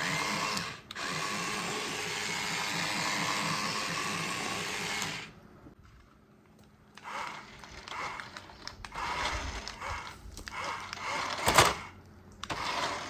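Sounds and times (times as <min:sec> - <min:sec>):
toy geared motor running: 0:00.0 - 0:05.3, 0:07.0 - 0:13.0.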